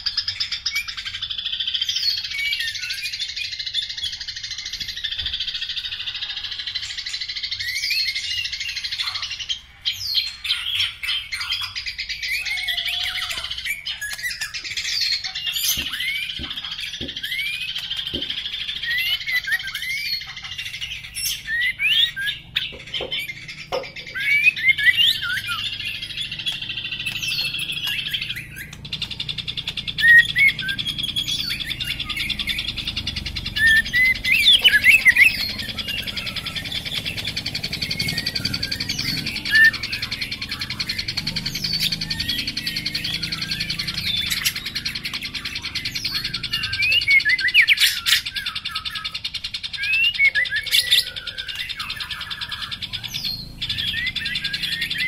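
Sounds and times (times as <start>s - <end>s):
bird singing whistled notes: 0.0s - 55.0s
constant high chatter: 0.0s - 55.0s.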